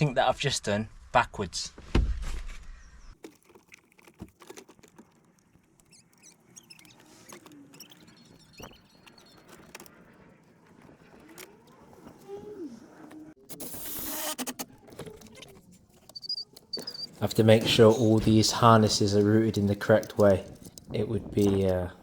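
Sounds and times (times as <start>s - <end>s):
short squeaks: 2.7s - 21.6s.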